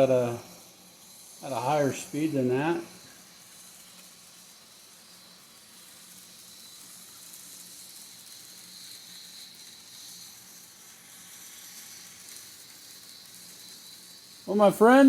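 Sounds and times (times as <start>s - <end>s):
model train wheels hissing: 0.0s - 15.0s.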